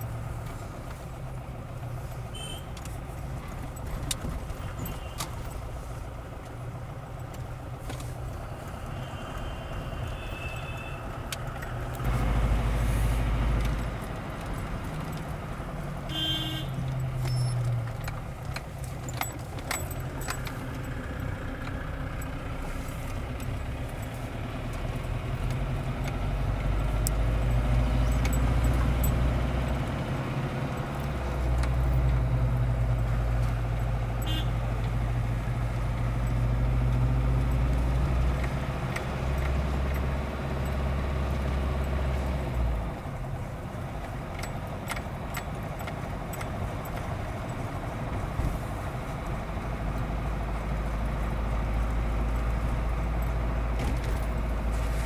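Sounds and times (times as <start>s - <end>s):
engine drone inside a car: 0.0s - 55.0s
road noise: 0.0s - 55.0s.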